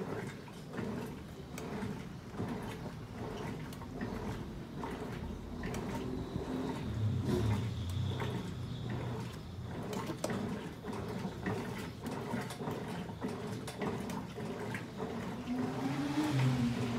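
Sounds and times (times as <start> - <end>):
washing machine water sloshing: 0.0 - 16.9.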